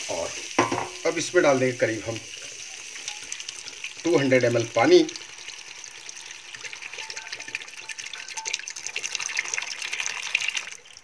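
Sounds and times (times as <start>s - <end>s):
water pouring into a steel pan: 0.0s - 11.0s.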